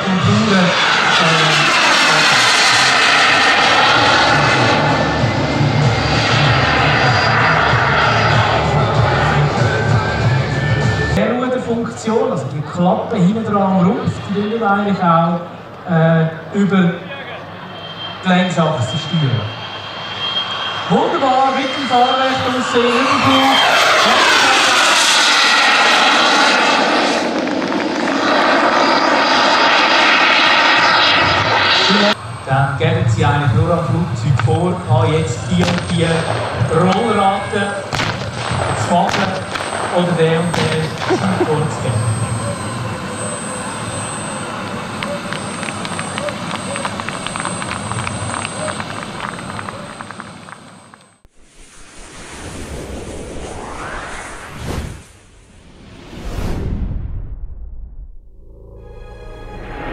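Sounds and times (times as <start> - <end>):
model jet roar flying past: 0.0 - 11.7, 17.2 - 50.6, 51.3 - 56.8.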